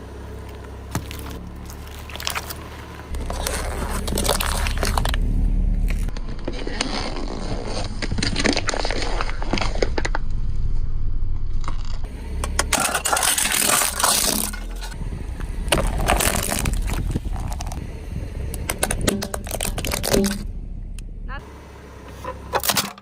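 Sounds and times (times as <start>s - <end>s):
steady low rumble: 0.0s - 22.6s
objects crunching under tyre: 0.3s - 17.8s, 18.5s - 20.5s.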